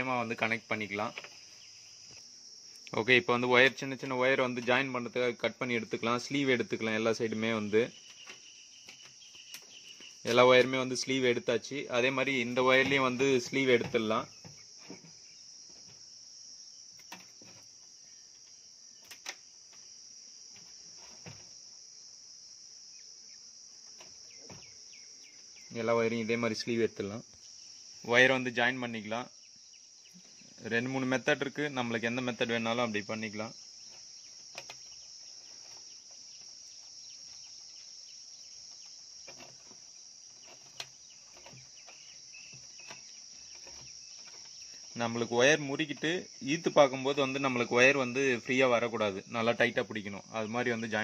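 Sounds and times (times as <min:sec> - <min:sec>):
crickets chirring: 0:00.0 - 0:51.0.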